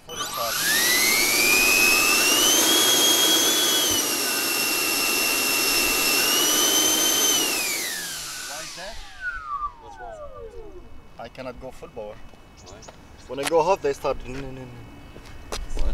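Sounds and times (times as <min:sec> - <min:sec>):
electric ducted fan whine: 0:00.0 - 0:15.9.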